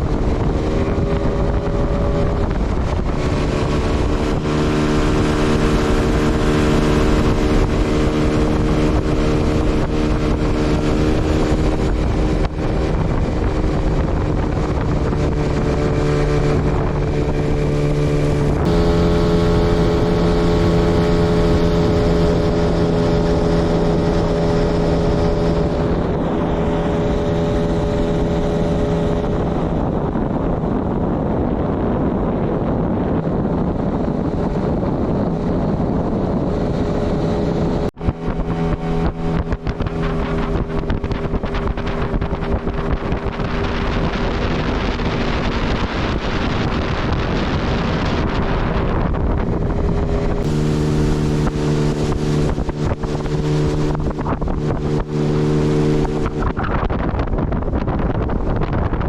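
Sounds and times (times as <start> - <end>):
outboard motor running: 0.0 - 59.0
wind on microphone: 0.0 - 59.0.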